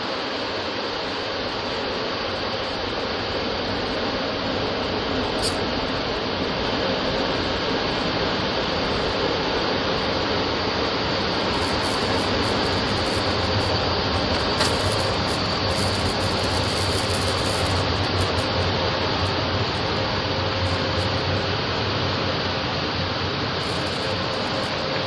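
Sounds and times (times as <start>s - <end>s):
car wash dryer blowers: 0.0s - 25.0s.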